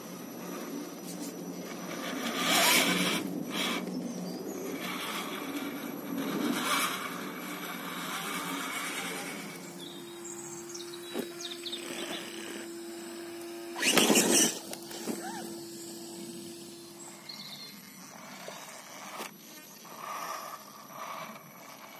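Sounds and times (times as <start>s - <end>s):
electric motors whirring: 0.0s - 21.9s.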